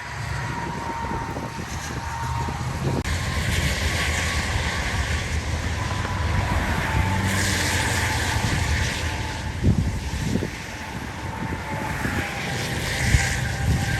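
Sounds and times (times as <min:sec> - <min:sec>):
wind and rain rushing: 0:00.0 - 0:13.9.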